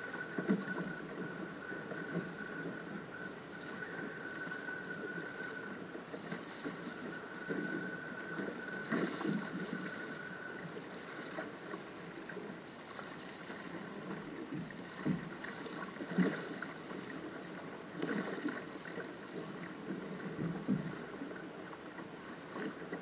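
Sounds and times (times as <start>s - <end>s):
water rushing along a hull: 0.0s - 23.0s
waves slapping bow: 0.0s - 23.0s.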